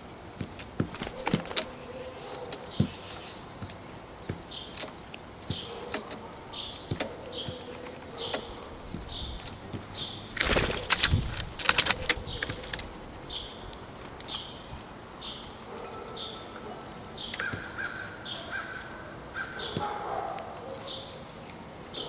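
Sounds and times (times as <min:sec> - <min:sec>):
bird wingbeats: 0:00.0 - 0:18.8
woodpecker tapping: 0:00.0 - 0:22.0.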